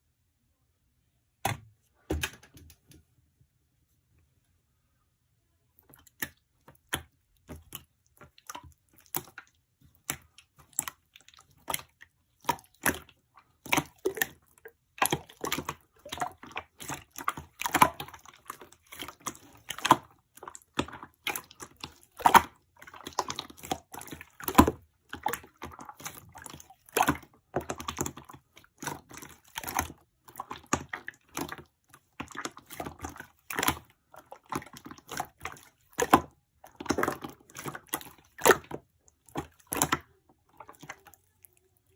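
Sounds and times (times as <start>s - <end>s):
wet clicks and squishes: 5.8s - 41.9s.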